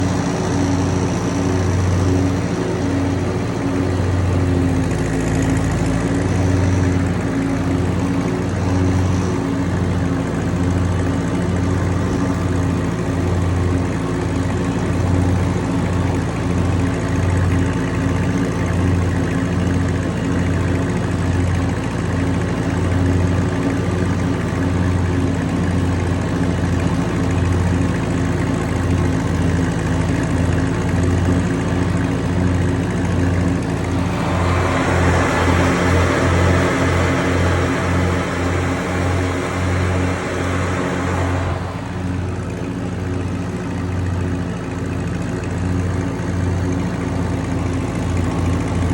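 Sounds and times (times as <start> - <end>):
tractor engine running steadily: 0.0 - 48.9.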